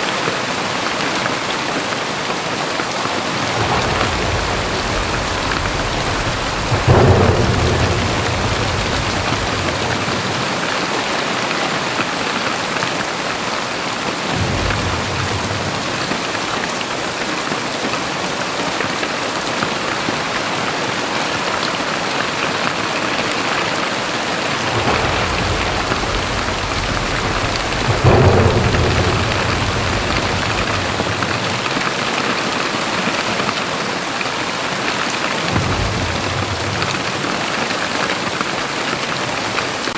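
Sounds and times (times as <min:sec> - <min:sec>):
heavy rain pouring: 0:00.0 - 0:39.9
thunder: 0:02.5 - 0:33.8, 0:34.6 - 0:39.9.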